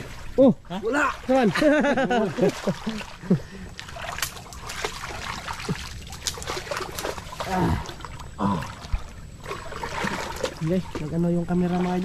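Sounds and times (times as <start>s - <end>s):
creek water trickling: 0.0s - 12.0s
small clicks and splashes: 2.3s - 12.0s.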